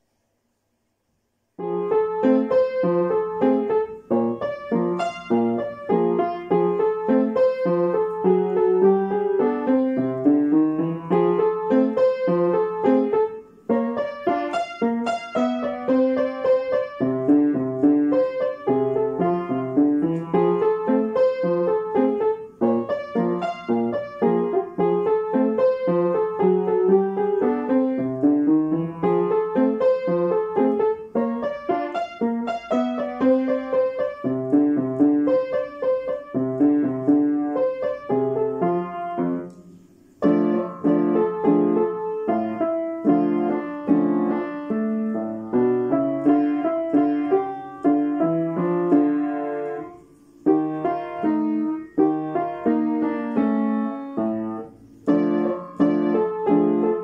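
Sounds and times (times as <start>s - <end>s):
ragtime piano piece: 1.6s - 57.0s.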